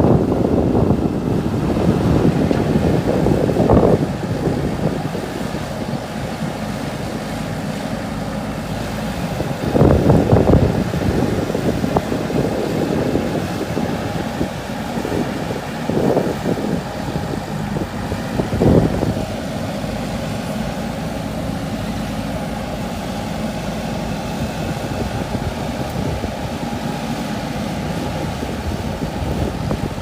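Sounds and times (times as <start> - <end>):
diesel engine of backhoe loader: 0.0 - 30.0.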